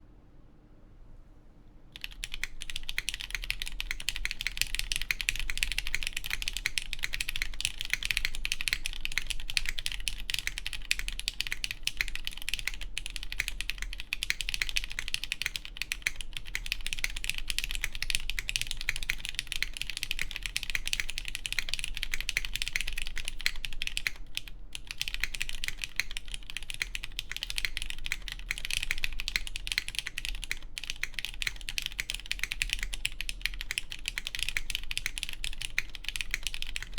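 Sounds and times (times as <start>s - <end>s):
fast mechanical keyboard typing: 2.0s - 36.9s.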